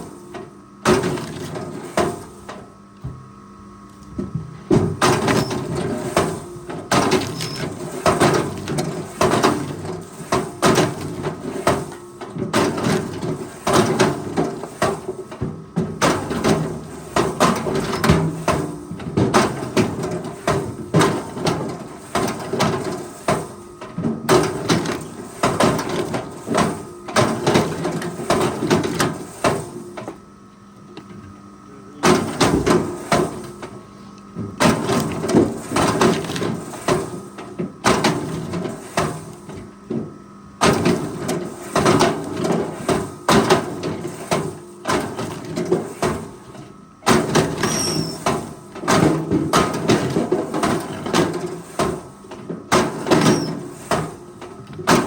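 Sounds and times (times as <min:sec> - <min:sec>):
machinery knocking and clanking: 0:04.2 - 0:30.2, 0:32.0 - 0:33.8, 0:34.4 - 0:55.0.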